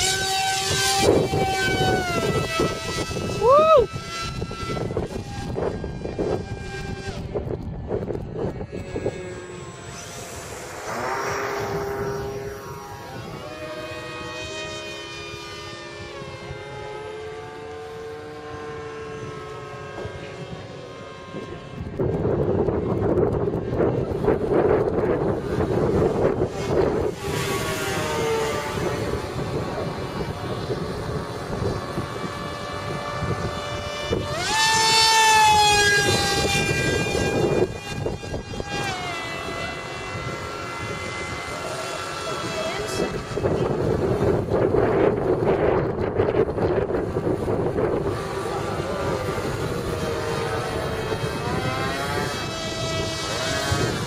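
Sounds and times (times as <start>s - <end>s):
model plane motor whining overhead: 0.0s - 54.0s
wind rumble on microphone: 0.0s - 54.0s.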